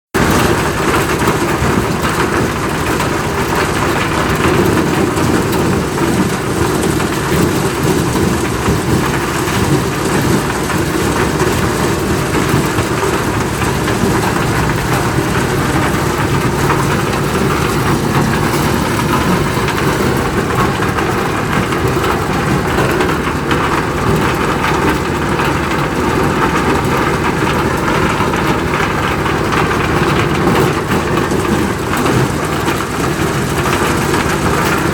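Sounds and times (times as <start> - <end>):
corn sheller engine hum: 0.2 - 34.9
dense mechanical noise: 0.2 - 34.9.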